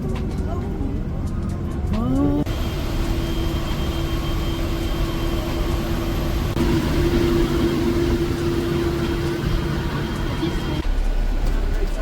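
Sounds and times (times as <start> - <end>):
heavy vehicle engine running: 0.0 - 12.0
steady whine: 0.0 - 12.0.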